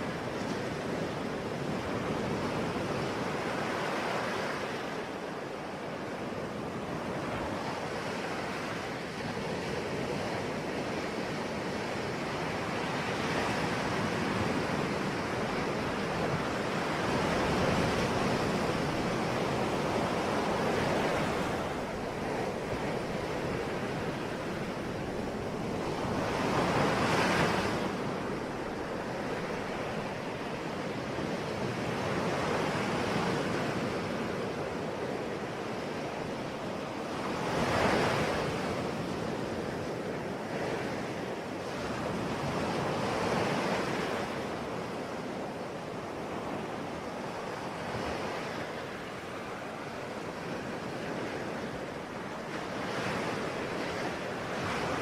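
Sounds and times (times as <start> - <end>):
ocean waves breaking: 5.8 - 55.0.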